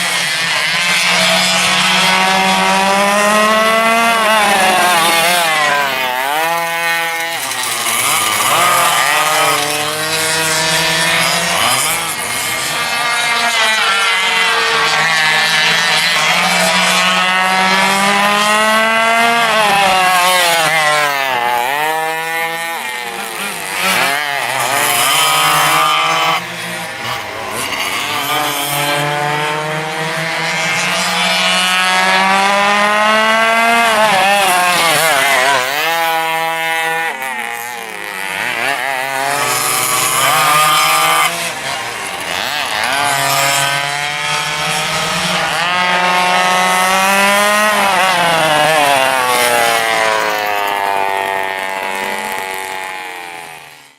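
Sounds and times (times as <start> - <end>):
racing kart engines revving: 0.0 - 53.9.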